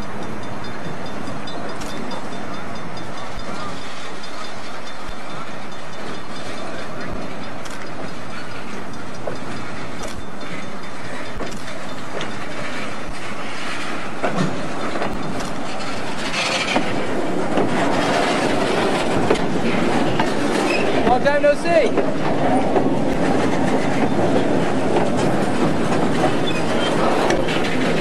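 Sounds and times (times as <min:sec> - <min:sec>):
steel wheels rolling on rails: 0:00.0 - 0:28.0.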